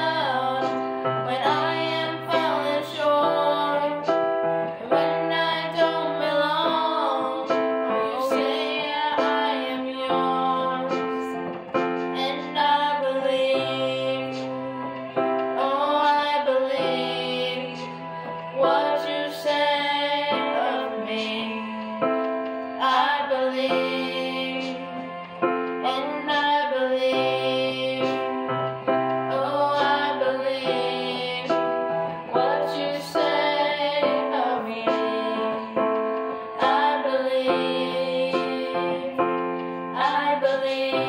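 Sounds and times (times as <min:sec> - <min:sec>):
woman singing: 0:00.0 - 0:22.0, 0:22.7 - 0:25.2, 0:25.8 - 0:41.0
digital piano chords: 0:00.0 - 0:41.0.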